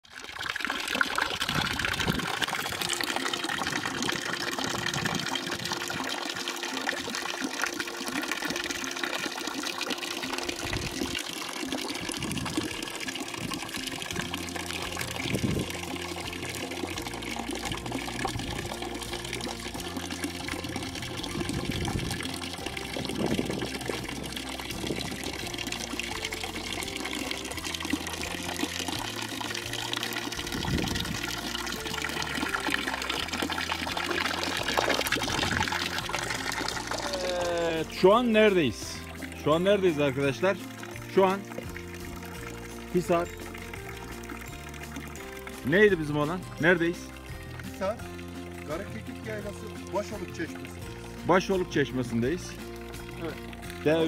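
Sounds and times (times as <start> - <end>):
fountain water running: 0.0 - 54.0.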